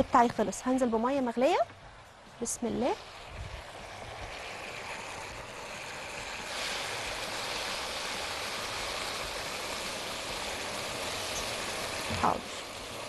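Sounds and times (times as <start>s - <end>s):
boiling water pouring: 2.0s - 13.0s.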